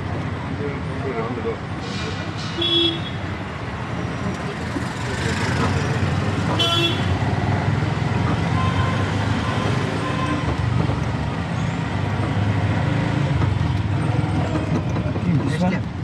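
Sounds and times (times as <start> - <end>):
city road traffic: 0.0 - 16.0.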